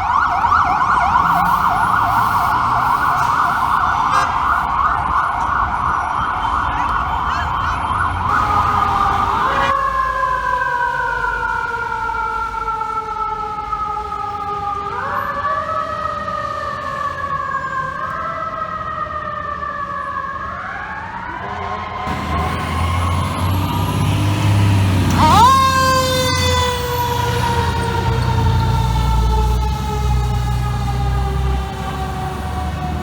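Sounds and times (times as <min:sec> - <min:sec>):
fire truck siren: 0:00.0 - 0:33.0.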